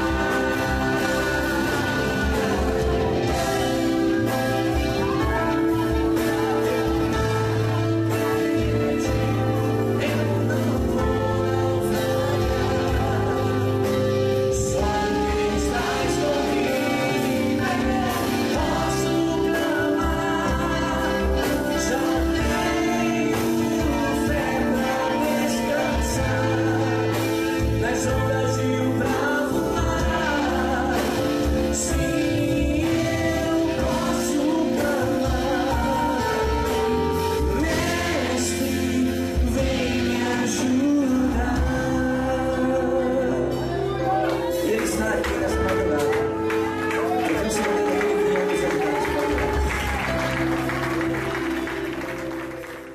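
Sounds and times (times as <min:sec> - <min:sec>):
voices singing together: 0:00.0 - 0:52.1
church band playing: 0:00.0 - 0:52.9.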